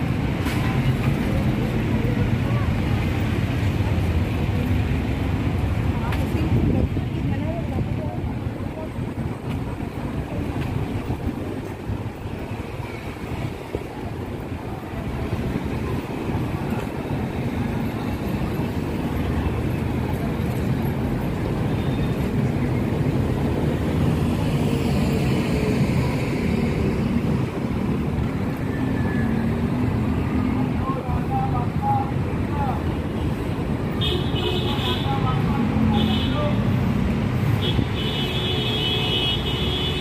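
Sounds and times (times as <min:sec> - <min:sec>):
minibus passing: 0:00.0 - 0:40.0
traffic rumble: 0:00.0 - 0:40.0.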